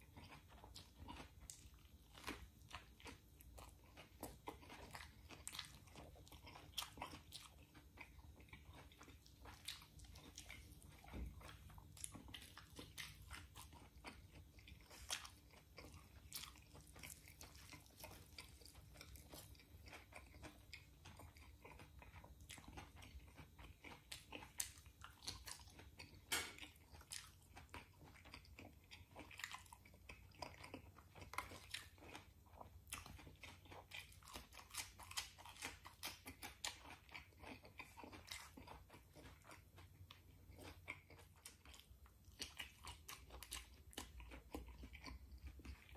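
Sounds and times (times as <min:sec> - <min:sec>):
crunchy lettuce bite: 0:00.0 - 0:45.9
man chewing food: 0:00.0 - 0:45.9.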